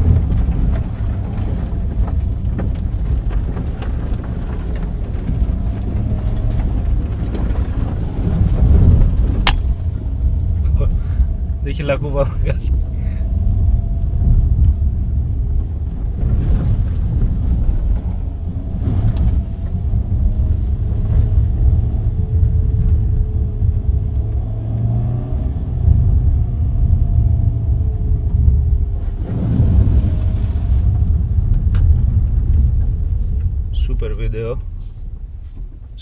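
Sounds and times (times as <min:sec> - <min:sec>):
engine and tyres rumbling: 0:00.0 - 0:36.0.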